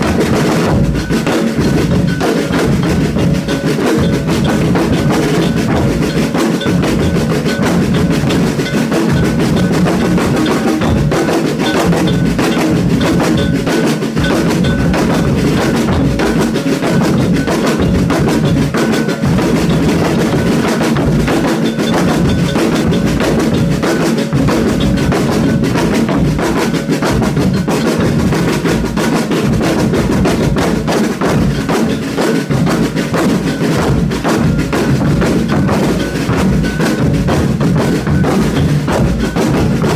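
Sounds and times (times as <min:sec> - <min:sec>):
percussion ensemble drum rhythm: 0:00.0 - 0:39.9.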